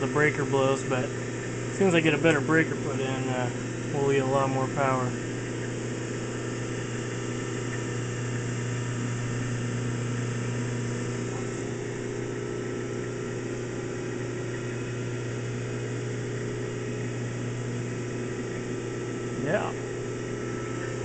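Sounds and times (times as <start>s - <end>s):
electrical hum with hiss: 0.0s - 21.0s.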